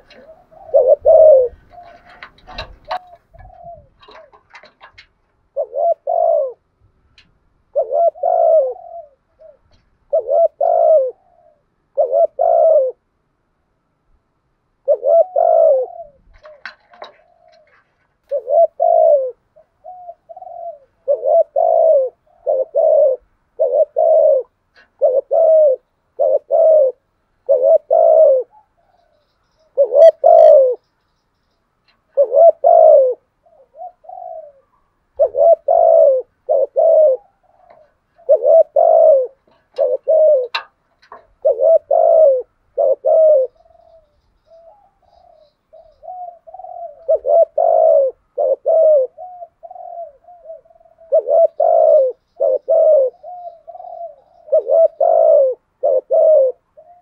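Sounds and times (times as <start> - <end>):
dove cooing: 0.0 - 6.8, 7.7 - 13.2, 14.8 - 30.9, 31.9 - 57.0.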